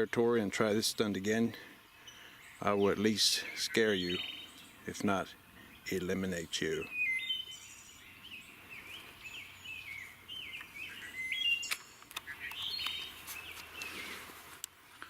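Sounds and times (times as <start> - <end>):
songbirds singing: 0.0 - 14.9.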